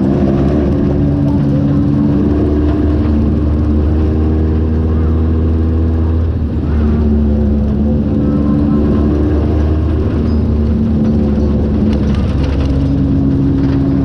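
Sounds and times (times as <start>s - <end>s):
buggy engine running: 0.0s - 14.0s.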